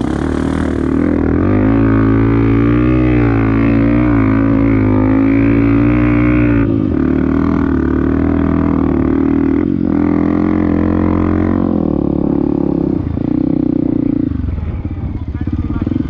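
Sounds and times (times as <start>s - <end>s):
off-road vehicle engine droning: 0.0s - 16.0s.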